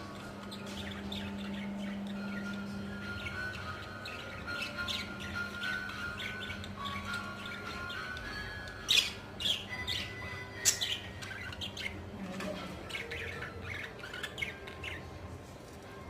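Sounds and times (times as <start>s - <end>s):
budgies chirping and squawking: 0.0s - 16.0s.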